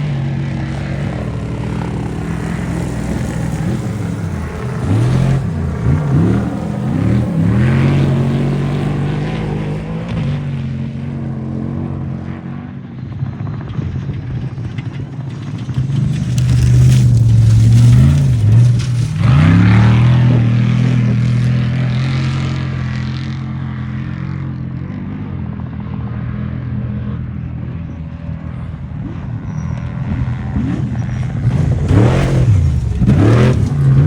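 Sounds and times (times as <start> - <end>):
off-road vehicle engine revving: 0.0 - 13.4, 15.5 - 25.6, 26.2 - 34.0.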